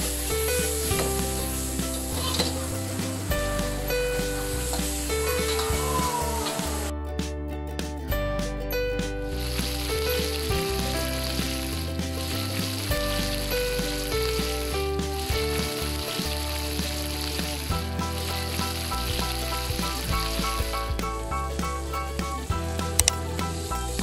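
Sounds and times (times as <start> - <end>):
chicken sizzling in hot oil: 0.0 - 6.9, 9.2 - 24.0
background music: 0.0 - 24.0.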